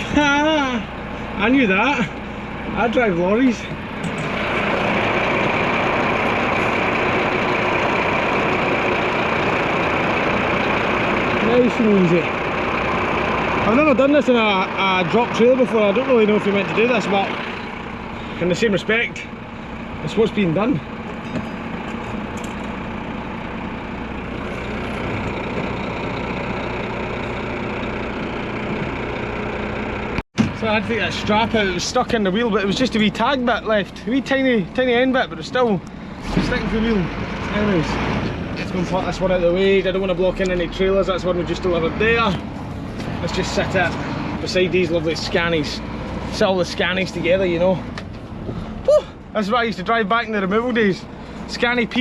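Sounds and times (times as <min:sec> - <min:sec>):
truck diesel engine running: 0:00.0 - 0:52.0.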